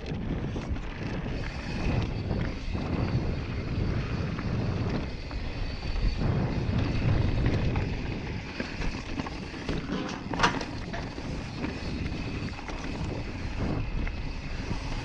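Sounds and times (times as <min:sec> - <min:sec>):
bike clicks and rattles: 0:00.0 - 0:15.0
bike tyres rolling on dirt: 0:00.0 - 0:15.0
wind buffeting microphone: 0:00.0 - 0:15.0.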